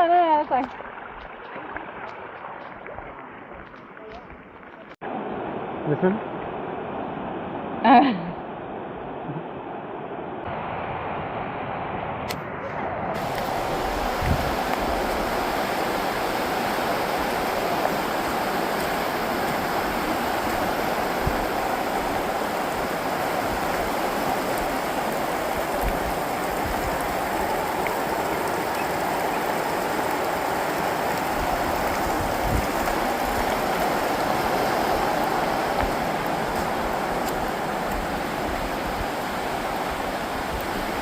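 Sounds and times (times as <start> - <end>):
creek water rushing: 0.0 - 9.2, 12.7 - 41.0.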